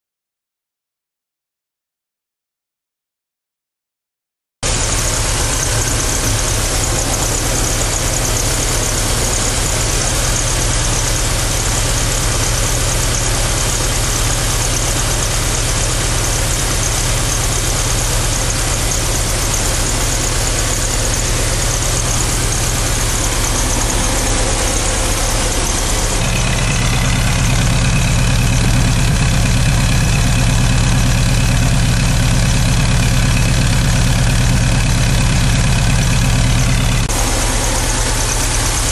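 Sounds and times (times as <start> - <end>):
van engine idling: 4.6 - 38.9.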